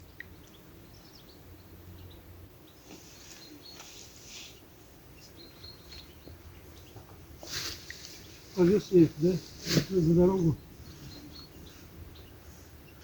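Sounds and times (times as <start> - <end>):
low outdoor background noise: 0.0 - 13.0.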